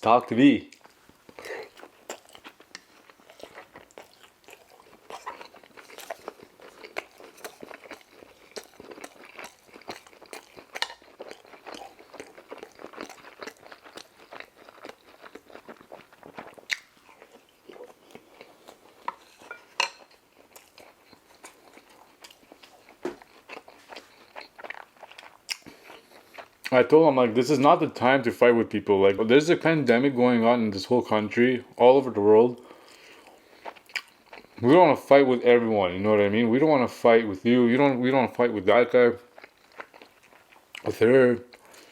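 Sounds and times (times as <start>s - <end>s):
chewing and crunching food: 0.4s - 27.6s, 31.1s - 41.9s.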